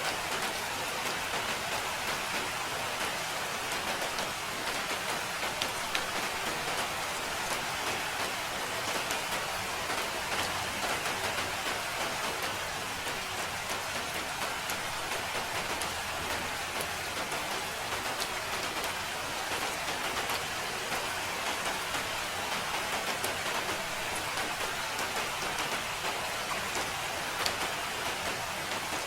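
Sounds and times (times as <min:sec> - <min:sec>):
rain falling: 0:00.0 - 0:29.0
raindrops ticking on a surface: 0:00.0 - 0:29.0.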